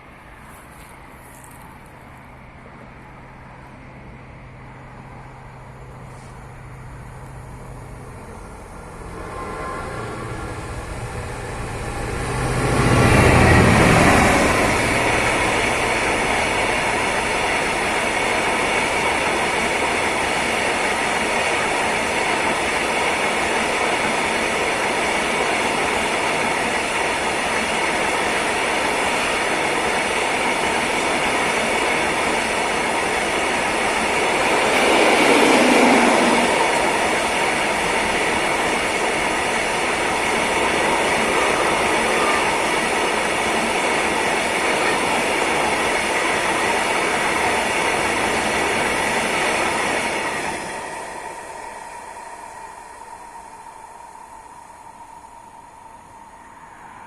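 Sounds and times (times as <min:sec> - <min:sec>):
train passing close by: 0:00.0 - 0:57.0.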